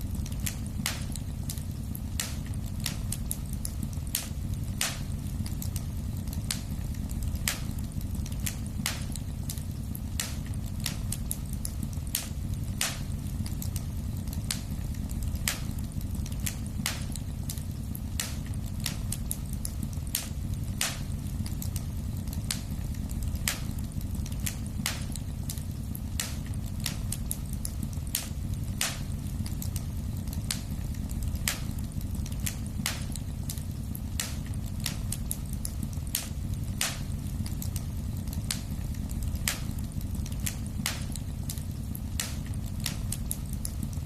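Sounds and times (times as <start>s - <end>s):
fire crackling and popping: 0.0s - 44.0s
low rumble of fire: 0.0s - 44.0s.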